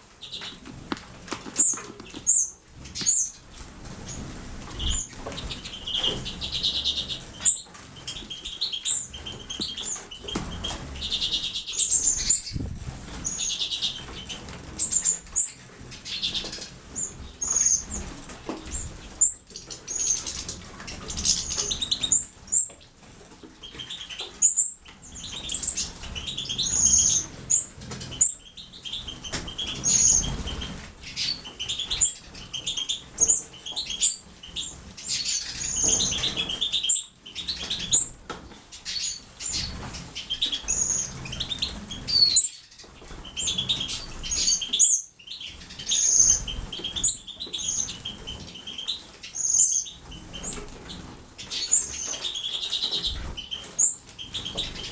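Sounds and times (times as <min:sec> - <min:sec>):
birds fluttering and splashing: 0:00.0 - 0:54.9.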